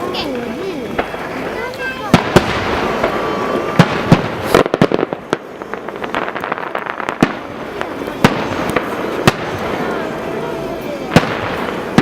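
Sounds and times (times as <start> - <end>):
crackling firework pops: 0.0 - 10.2, 11.0 - 12.0
fireworks bangs: 0.0 - 12.0.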